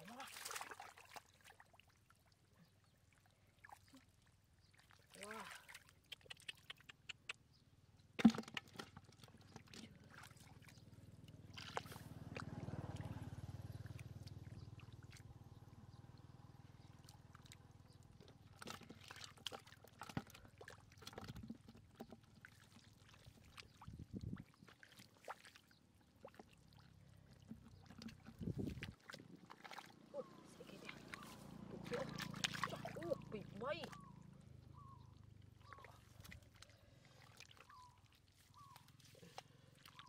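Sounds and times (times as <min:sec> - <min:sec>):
small splashes: 0:00.0 - 0:07.1, 0:08.0 - 0:40.0
muddy water sloshing: 0:00.0 - 0:40.0.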